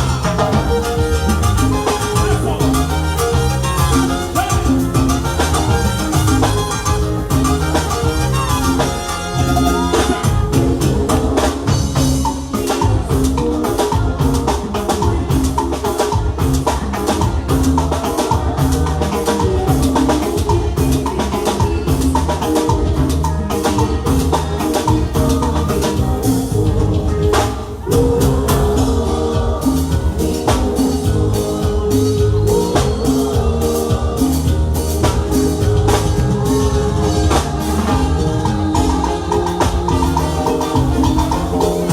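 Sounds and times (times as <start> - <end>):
live latin dance band: 0.0 - 41.9.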